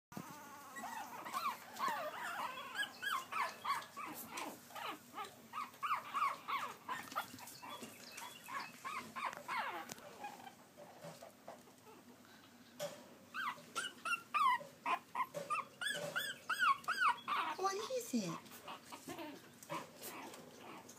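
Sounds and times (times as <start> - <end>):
puppies whimpering: 0.2 - 10.6, 13.3 - 20.9.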